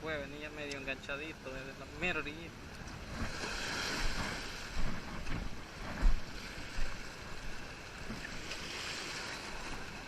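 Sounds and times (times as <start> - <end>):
water washing at shore: 0.8 - 10.0
wind on microphone: 1.8 - 10.0.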